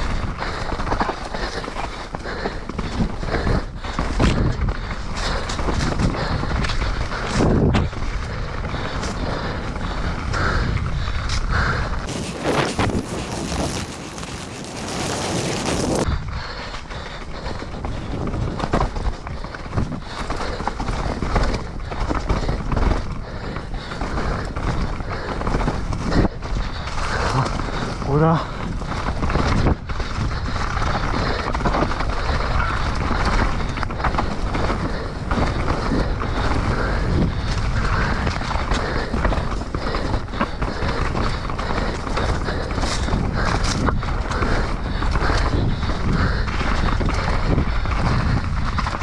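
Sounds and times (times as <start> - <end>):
mountain bike rattling: 0.0 - 49.0
wind rushing on microphone: 0.0 - 49.0.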